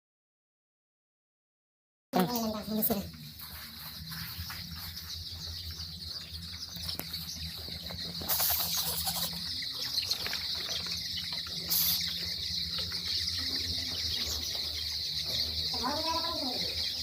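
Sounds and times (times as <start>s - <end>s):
high-pitched chirring: 2.2s - 17.0s.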